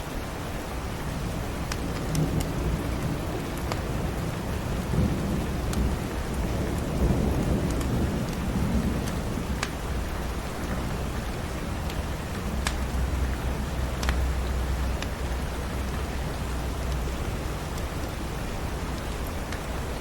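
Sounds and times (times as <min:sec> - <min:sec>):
steady rain: 0:00.0 - 0:20.0
wood fire crackling: 0:00.8 - 0:20.0
thunder rumbling: 0:01.0 - 0:20.0.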